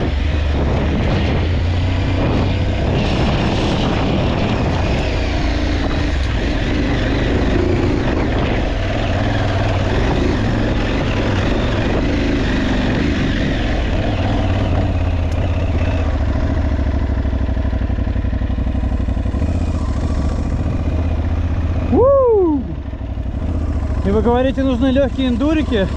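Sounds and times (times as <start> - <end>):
motorcycle engine rumbling: 0.0 - 25.9.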